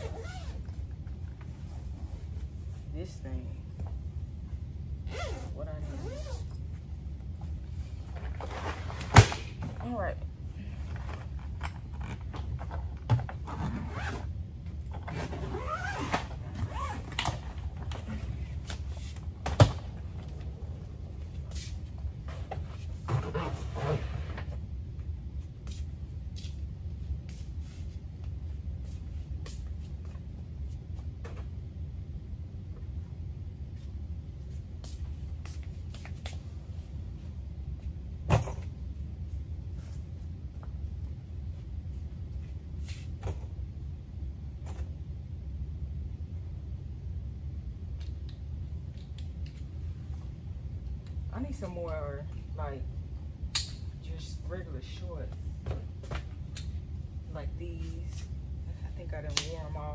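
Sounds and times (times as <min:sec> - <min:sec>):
steady low rumble: 0:00.0 - 0:15.4, 0:16.2 - 0:59.9.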